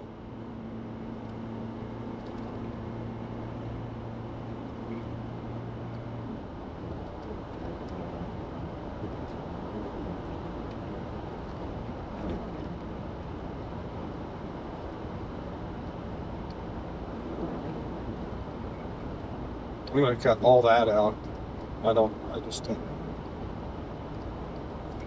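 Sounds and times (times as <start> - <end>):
road and tyre noise: 0.0 - 25.0.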